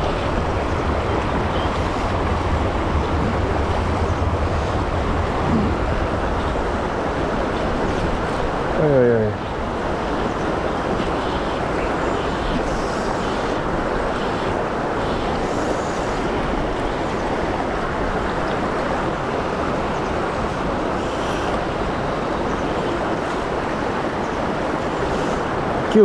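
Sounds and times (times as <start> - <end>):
river water rushing over riffle: 0.0 - 26.0.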